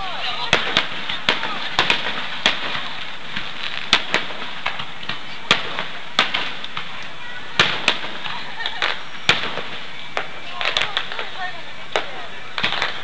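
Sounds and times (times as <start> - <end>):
firework shells bursting: 0.4 - 13.0.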